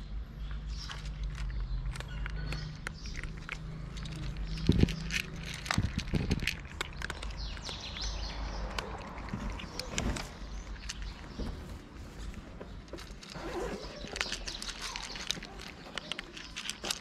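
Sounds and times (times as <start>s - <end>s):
cats crunching dry kibble: 0.4s - 17.0s.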